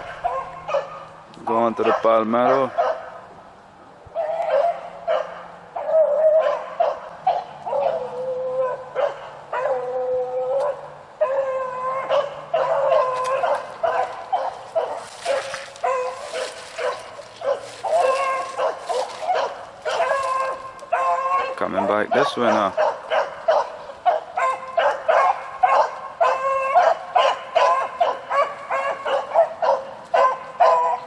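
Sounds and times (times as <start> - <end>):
hounds baying and yelping: 0.0 - 3.2, 4.1 - 31.0.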